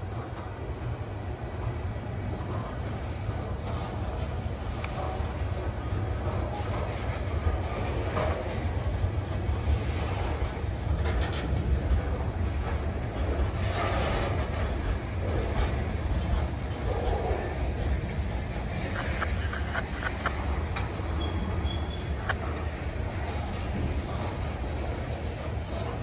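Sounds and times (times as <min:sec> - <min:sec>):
rolling train wheels rumble: 0:00.0 - 0:26.0
wheels clicking over rail joints: 0:00.0 - 0:26.0.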